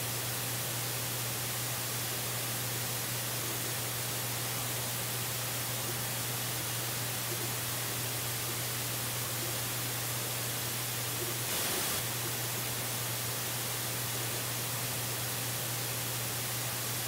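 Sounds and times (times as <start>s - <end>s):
static hiss: 0.0s - 17.0s.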